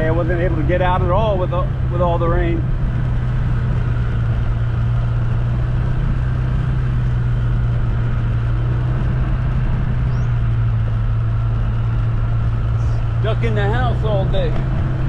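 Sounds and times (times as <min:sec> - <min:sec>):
vehicle engine and road drone: 0:00.0 - 0:15.0.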